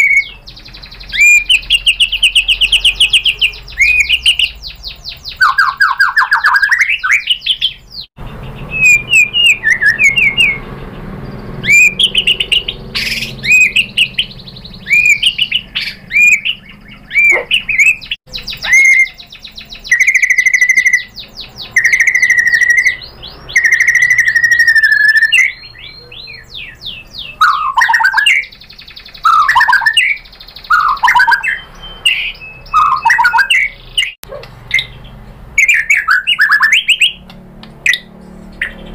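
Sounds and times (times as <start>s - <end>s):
bird singing whistles and trills: 0.0s - 37.3s, 37.9s - 38.9s.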